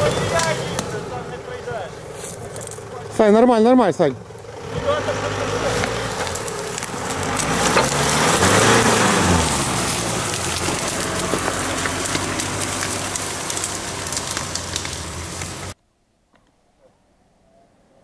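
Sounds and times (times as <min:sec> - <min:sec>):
branches brushing and crackling: 0:00.0 - 0:15.8
vehicle engine revving: 0:00.0 - 0:15.8.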